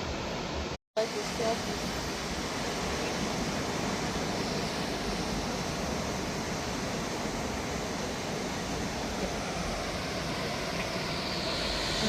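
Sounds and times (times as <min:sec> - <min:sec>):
ocean surf breaking: 0:01.0 - 0:12.0.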